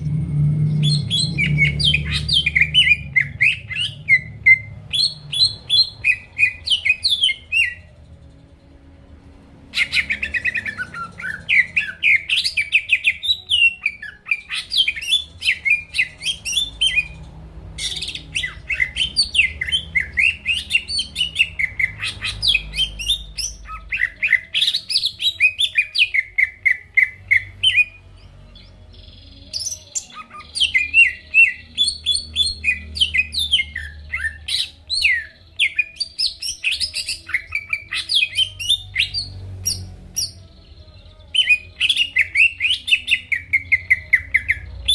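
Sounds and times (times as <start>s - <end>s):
bird singing rapid chattering notes: 0.4s - 8.6s, 9.7s - 44.9s.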